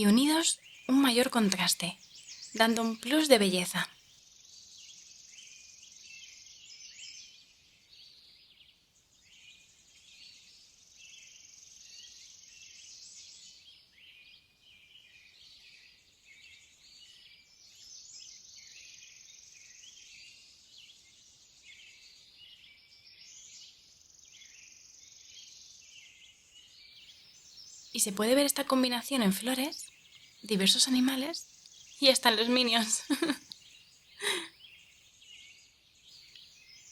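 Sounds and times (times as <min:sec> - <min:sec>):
chorus of small birds chirping: 0:00.0 - 0:36.9.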